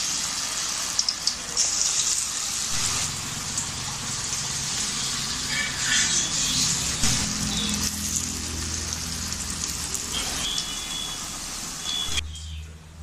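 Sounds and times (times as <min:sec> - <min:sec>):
oil crackles: 0:00.0 - 0:12.1
deep-frying sizzle: 0:00.0 - 0:12.8.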